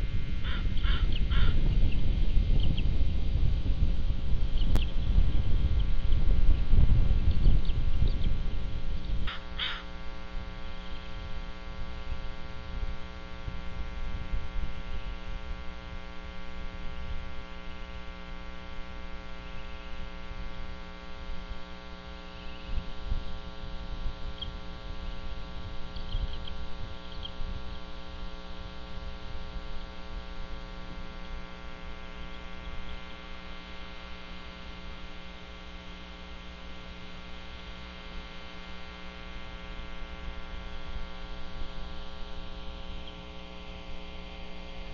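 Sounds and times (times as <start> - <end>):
electrical mains hum: 0.0 - 44.9.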